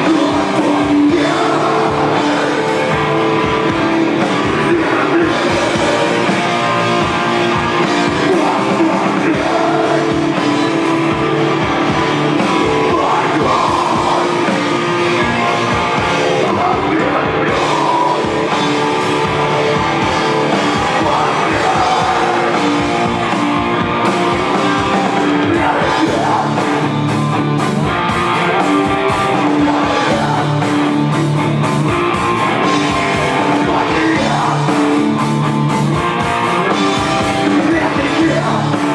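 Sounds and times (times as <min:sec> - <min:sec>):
person singing: 0:00.0 - 0:27.2, 0:28.3 - 0:31.2, 0:32.6 - 0:35.4, 0:36.1 - 0:38.9
bass guitar: 0:00.0 - 0:38.9
drums: 0:00.0 - 0:38.9
guitars: 0:00.0 - 0:38.9.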